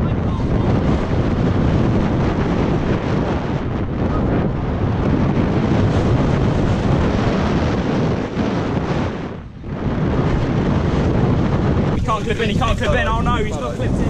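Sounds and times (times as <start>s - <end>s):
bike tyres rumbling over dirt: 0.0s - 14.0s
wind buffeting microphone: 0.0s - 14.0s.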